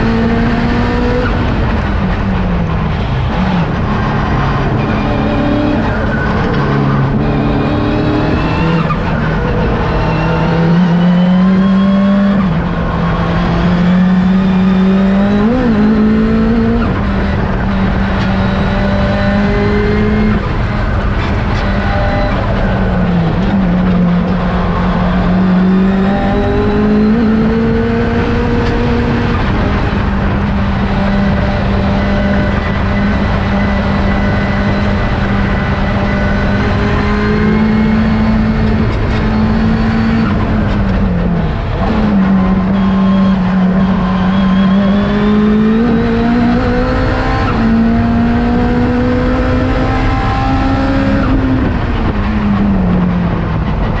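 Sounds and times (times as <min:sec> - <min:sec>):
race car engine revving through gears: 0:00.0 - 0:54.0.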